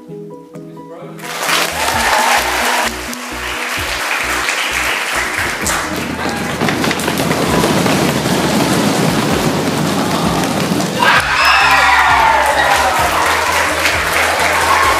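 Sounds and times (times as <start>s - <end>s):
children clapping: 1.2s - 14.9s
music with low beat: 1.7s - 14.9s.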